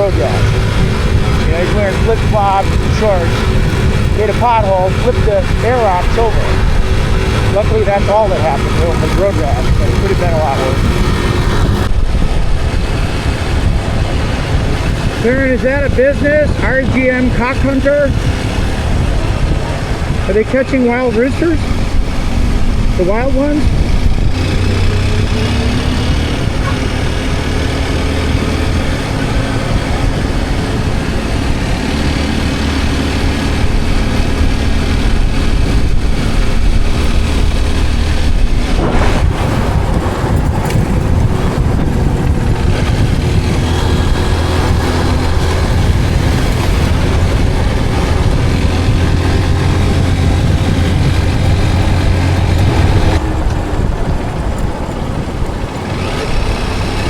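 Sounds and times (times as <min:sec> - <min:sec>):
motorcycle engine running: 0:00.0 - 0:57.0
road noise: 0:00.0 - 0:57.0
rush of noise: 0:00.0 - 0:57.0.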